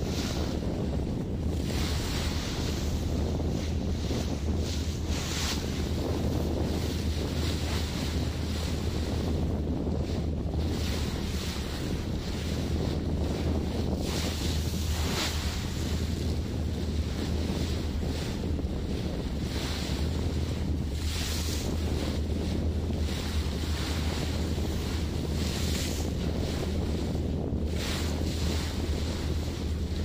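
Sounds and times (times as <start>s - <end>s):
sea water rushing: 0.0s - 30.0s
wind buffeting microphone: 0.0s - 30.0s.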